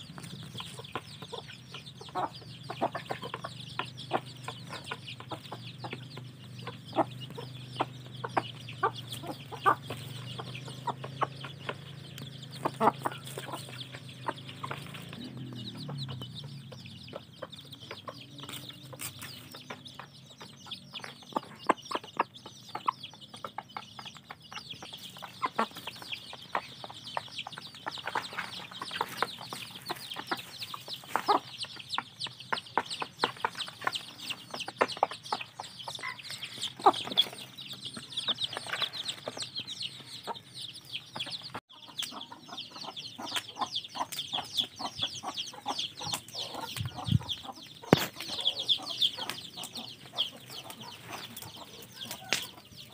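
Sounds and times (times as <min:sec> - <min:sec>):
chicks peeping: 0:00.0 - 0:52.9
hen and rooster clucking: 0:00.0 - 0:52.9.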